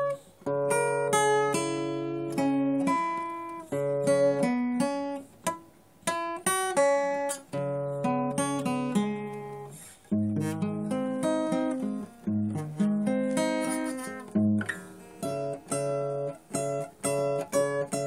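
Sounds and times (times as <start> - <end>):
solo acoustic guitar: 0.0 - 18.0.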